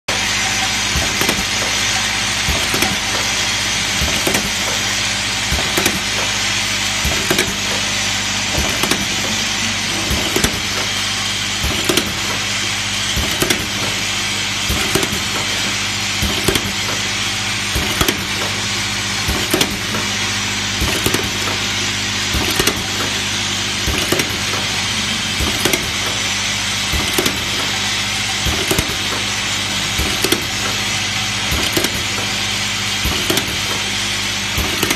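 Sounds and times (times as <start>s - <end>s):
bowl feeder humming: 0.1s - 33.1s.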